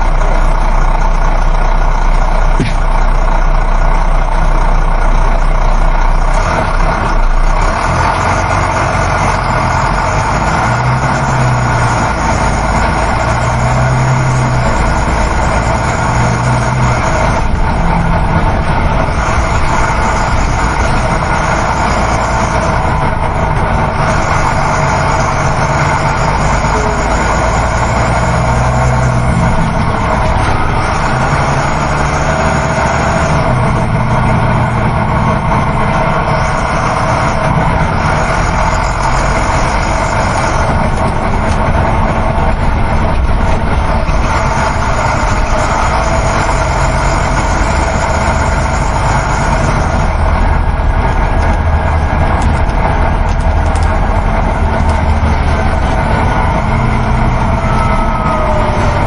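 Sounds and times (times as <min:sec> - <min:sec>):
bus engine drone: 0:00.0 - 0:59.0
road and tyre noise: 0:00.0 - 0:59.0.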